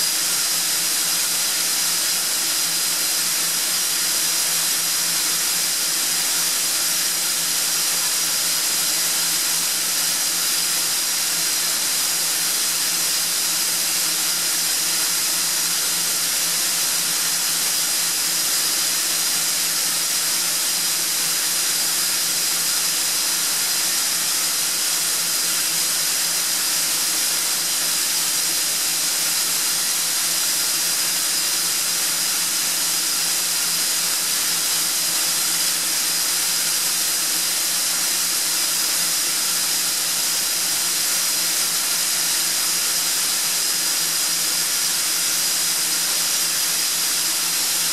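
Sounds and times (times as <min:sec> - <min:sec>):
air compressor running: 0:00.0 - 0:47.9.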